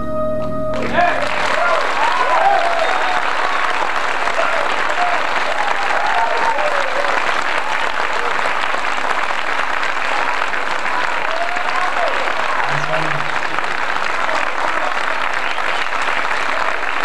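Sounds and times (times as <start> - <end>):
audience applauding: 0.7 - 17.0
audience cheering and shouting: 0.8 - 8.9, 10.0 - 17.0.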